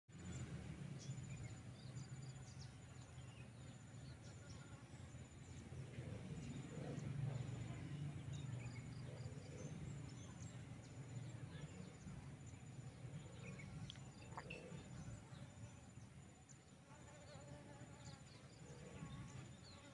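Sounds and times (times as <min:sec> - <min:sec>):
faint bird chirps: 0:01.0 - 0:19.9.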